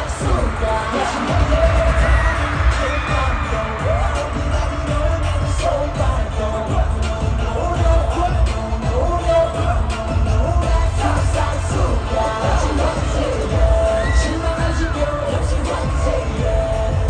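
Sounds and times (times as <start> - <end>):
heavy pulsing bass beat: 0.0 - 17.0
man singing into a microphone: 0.0 - 17.0
pop music over stadium speakers: 0.0 - 17.0.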